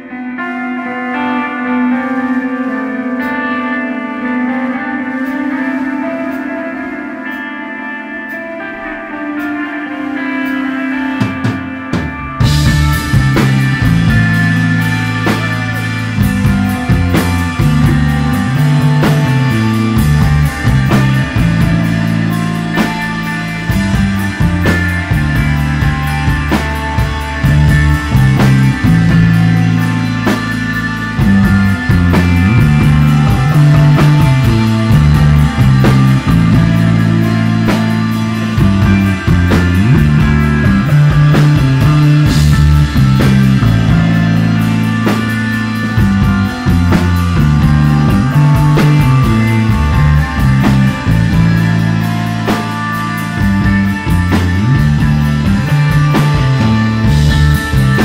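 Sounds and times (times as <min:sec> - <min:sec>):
bass guitar: 0:00.0 - 0:58.0
drum kit: 0:00.0 - 0:58.0
electric guitar: 0:00.0 - 0:58.0.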